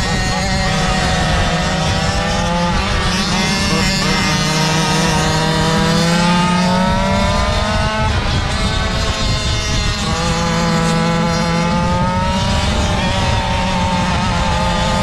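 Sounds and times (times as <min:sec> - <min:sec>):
small two-stroke engine running: 0:00.0 - 0:15.0
wind rumbling on microphone: 0:00.0 - 0:15.0.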